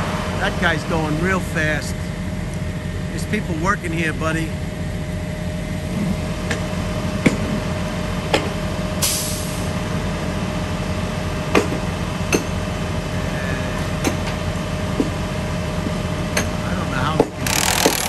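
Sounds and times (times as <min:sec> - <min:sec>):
truck engines running: 0:00.0 - 0:18.0.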